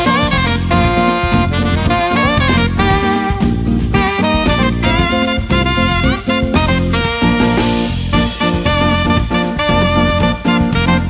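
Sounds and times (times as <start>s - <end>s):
swing jazz with saxophone and brass: 0.0s - 11.0s.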